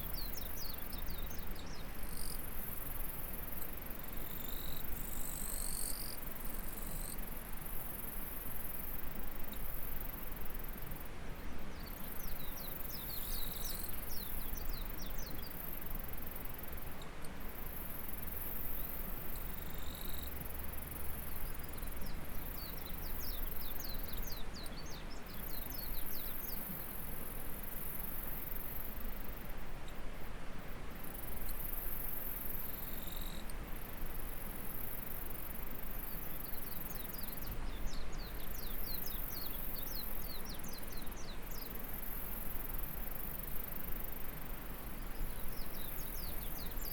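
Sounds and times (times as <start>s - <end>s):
high insect chorus: 0.0s - 29.6s, 30.6s - 46.9s.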